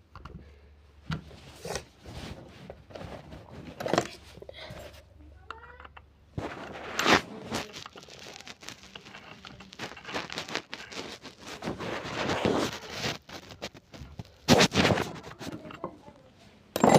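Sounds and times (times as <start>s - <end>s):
rustling and crinkling: 1.0s - 16.9s.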